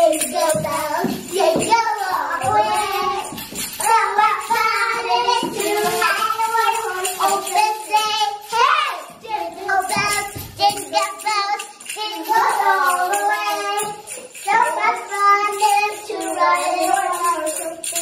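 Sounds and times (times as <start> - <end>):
girls singing: 0.0 - 18.0.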